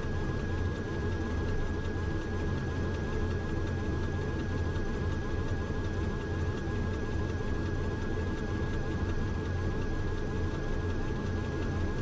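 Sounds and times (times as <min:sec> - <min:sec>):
turboprop engines low drone: 0:00.0 - 0:12.0.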